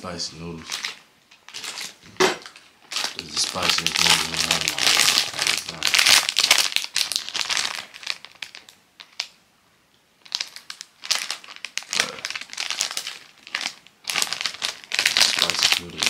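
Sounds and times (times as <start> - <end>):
plastic wrapper crinkling: 0.4 - 9.4, 10.2 - 16.0.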